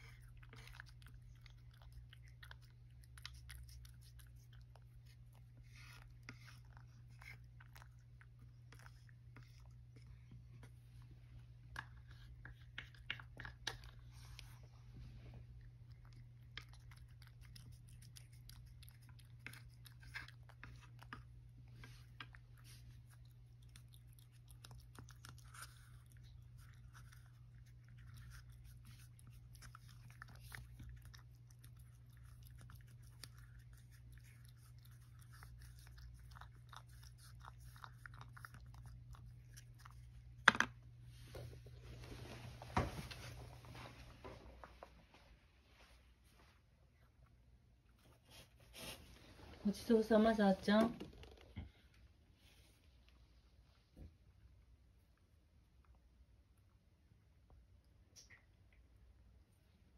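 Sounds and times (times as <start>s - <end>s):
cat eating wet food: 0.0s - 43.6s, 51.0s - 59.9s.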